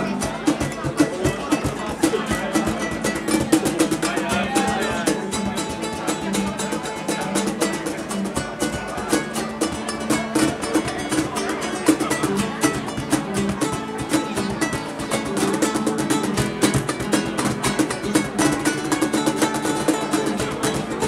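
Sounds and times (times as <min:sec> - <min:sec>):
percussion: 0:00.0 - 0:21.0
small four-string guitar strumming: 0:00.0 - 0:21.0
strummed acoustic guitar: 0:00.0 - 0:21.0.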